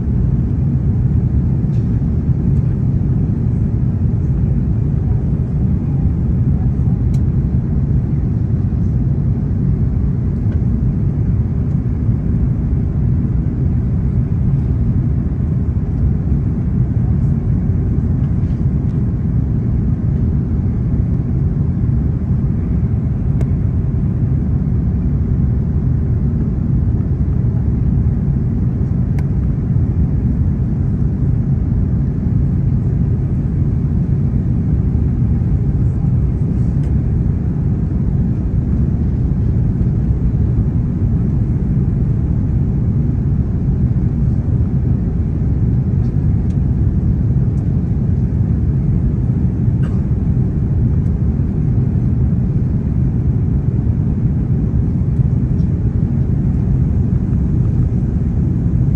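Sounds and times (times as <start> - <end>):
airliner cabin rumble: 0.0 - 58.9.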